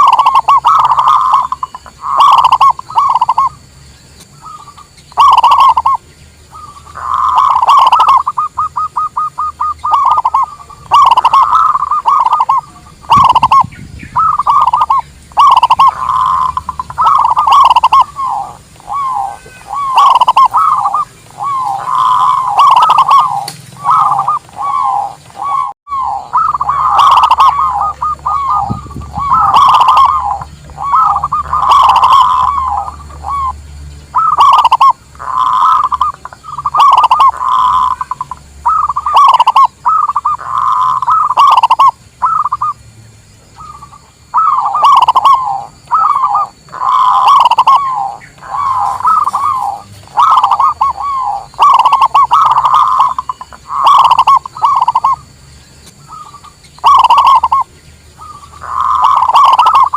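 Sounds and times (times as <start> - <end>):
doves cooing: 0.0 - 42.8, 43.5 - 59.9.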